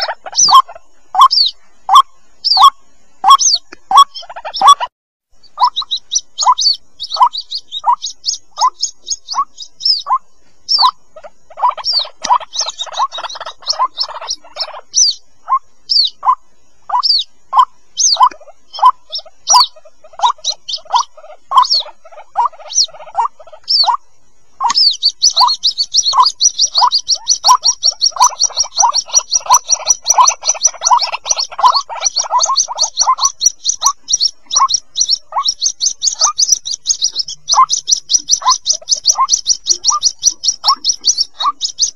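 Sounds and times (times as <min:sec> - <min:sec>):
waterhen chicks calling: 0:00.0 - 0:41.9
high thin peeps: 0:05.6 - 0:24.0, 0:24.6 - 0:41.9.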